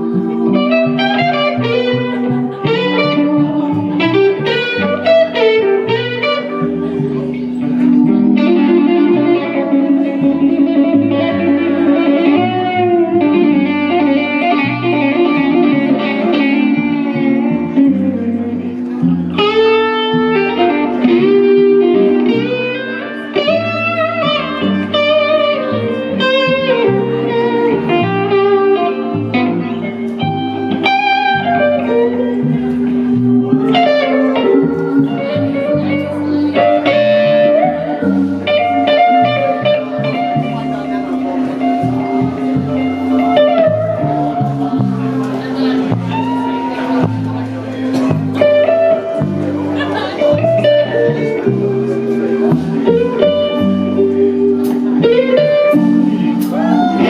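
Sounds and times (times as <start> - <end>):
blues band playing: 0.0 - 57.0
electric guitar solo with bent notes: 0.0 - 57.0
walking bass line: 0.0 - 57.0.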